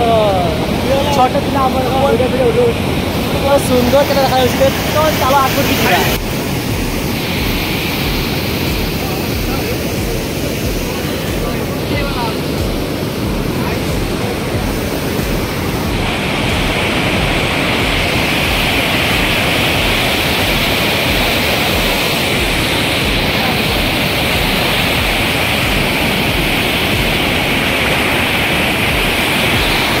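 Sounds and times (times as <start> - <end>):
river rushing over rapids: 0.0 - 30.0.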